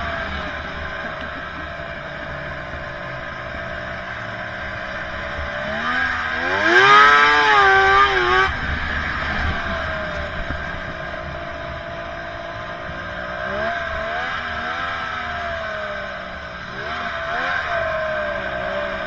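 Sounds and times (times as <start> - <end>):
snowmobile engine revving: 0.0 - 19.0.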